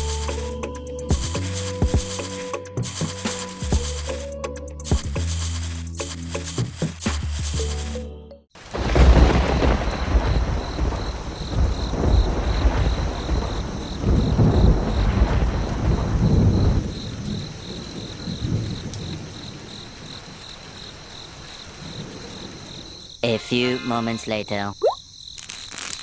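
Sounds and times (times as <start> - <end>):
faint pulsing insect chirp: 0.0 - 8.0, 8.7 - 26.0.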